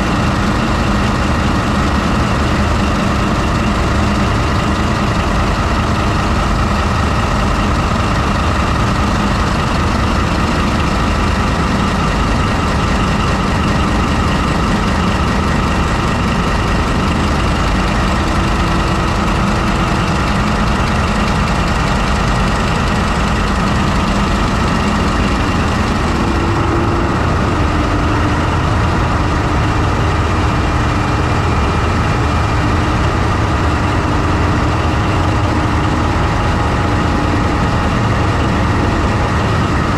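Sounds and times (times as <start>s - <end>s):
diesel engine rumble: 0.0s - 39.9s
steady whining tones: 0.0s - 39.9s.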